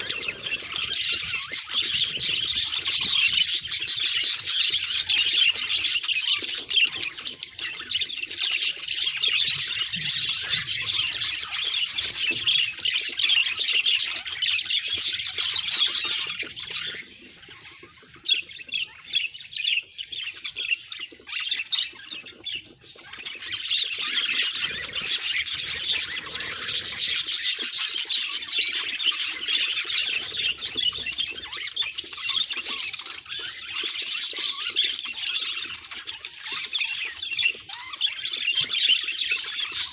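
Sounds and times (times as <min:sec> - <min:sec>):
budgerigar chirping and warbling: 0:00.0 - 0:39.9.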